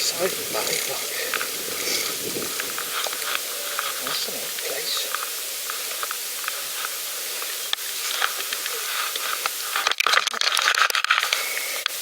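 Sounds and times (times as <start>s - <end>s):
bike tyres hissing: 0.0s - 12.0s
crackling: 0.0s - 12.0s.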